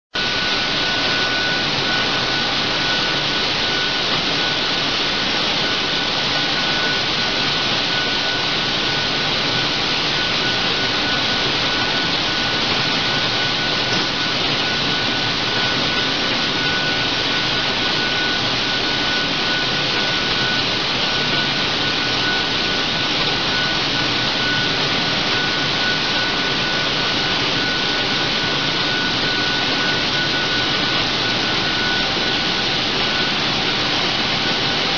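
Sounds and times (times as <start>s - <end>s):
factory machinery hiss and whine: 0.2s - 34.9s.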